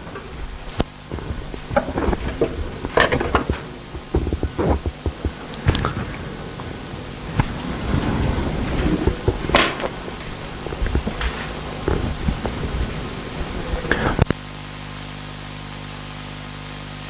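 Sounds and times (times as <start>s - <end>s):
taps knocks and rustles: 0.0s - 14.3s.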